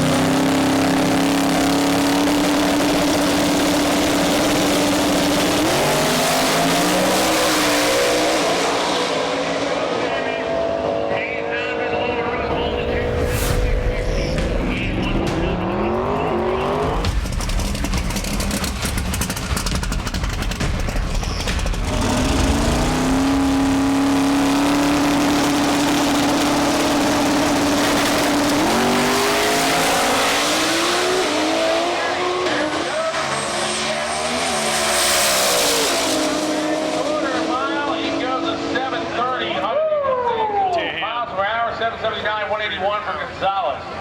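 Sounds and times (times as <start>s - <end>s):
drag racing car engine: 0.0s - 44.0s.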